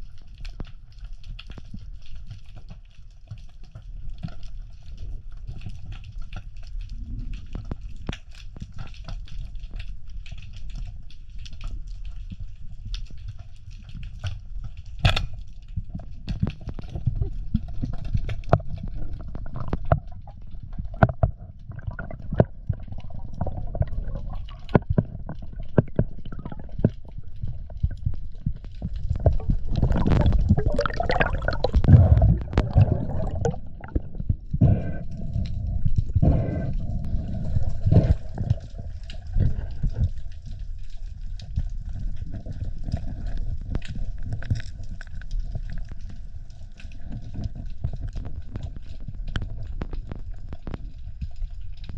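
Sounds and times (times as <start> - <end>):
underwater churning water: 0.0 - 51.9
sharp underwater clicks and knocks: 0.3 - 51.9.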